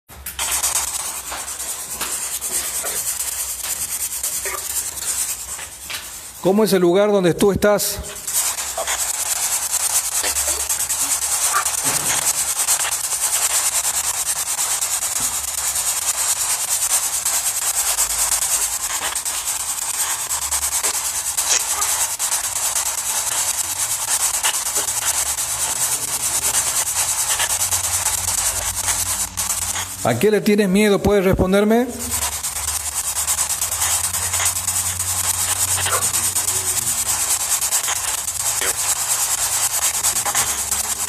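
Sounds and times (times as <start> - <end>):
static hiss with crackling: 0.1 - 41.0.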